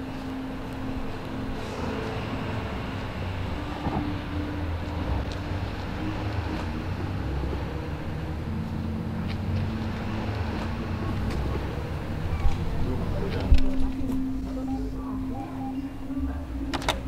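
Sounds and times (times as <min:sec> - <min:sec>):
faint engine hum: 0:00.0 - 0:17.0
street traffic rumble: 0:00.0 - 0:17.0.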